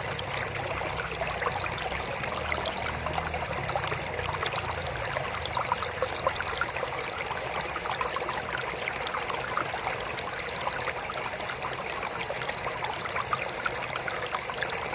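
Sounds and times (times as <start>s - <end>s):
water trickling in aquarium: 0.0s - 14.9s.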